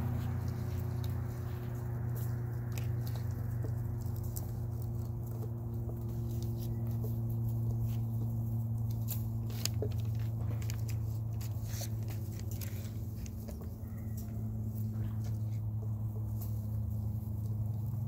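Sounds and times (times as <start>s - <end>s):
puppies moving and chewing: 0.0s - 18.0s
steady low hum: 0.0s - 18.0s.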